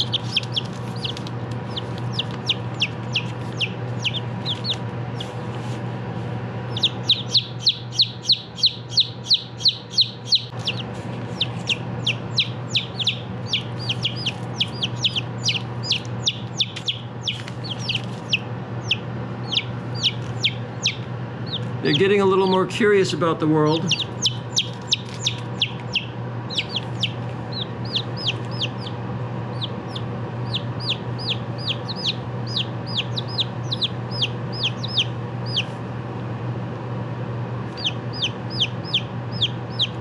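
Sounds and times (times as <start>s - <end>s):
chicks cheeping: 0.0s - 5.8s, 6.5s - 35.8s, 37.7s - 40.0s.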